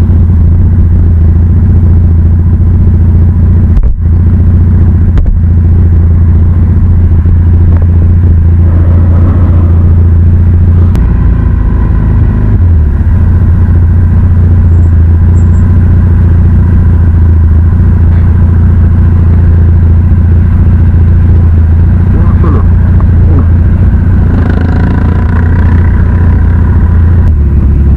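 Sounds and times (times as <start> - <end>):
motorcycle engine drone: 0.0 - 27.9.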